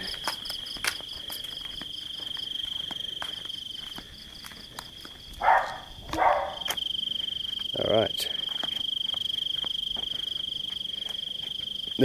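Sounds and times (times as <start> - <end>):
crickets chirping: 0.0 - 12.0
footsteps: 0.0 - 12.0.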